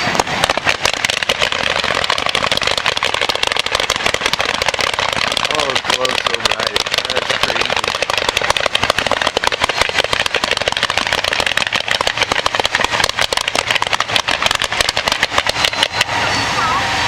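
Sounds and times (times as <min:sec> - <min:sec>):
fireworks crackling pops: 0:00.0 - 0:16.2.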